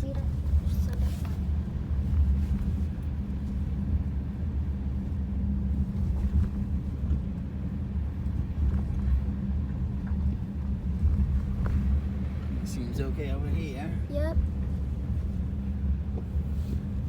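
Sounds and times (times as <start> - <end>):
car driving rumble from inside: 0.0 - 17.0.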